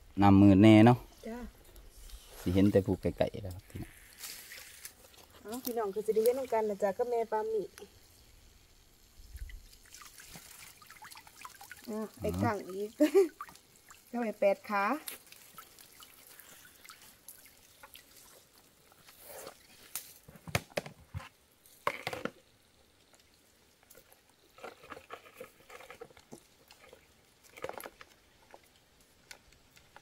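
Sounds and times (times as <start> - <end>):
water dripping and splashing: 1.6 - 20.3, 21.6 - 30.0.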